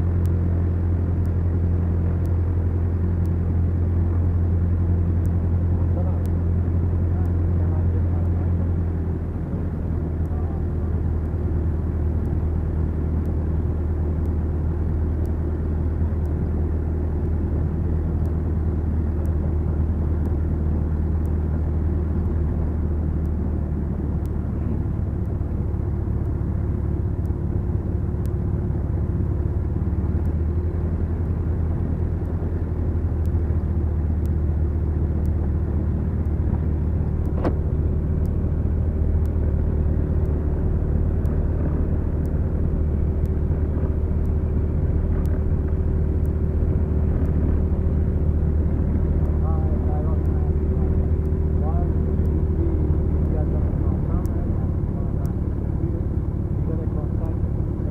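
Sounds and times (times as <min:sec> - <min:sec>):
twin piston engines droning: 0:00.0 - 0:57.9.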